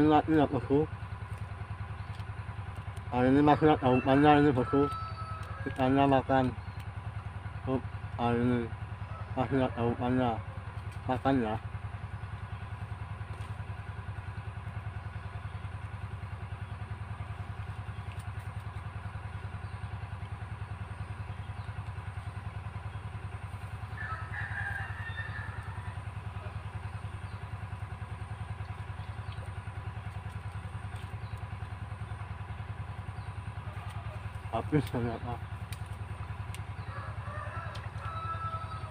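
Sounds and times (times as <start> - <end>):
diesel pump engine chugging: 0.0 - 38.9.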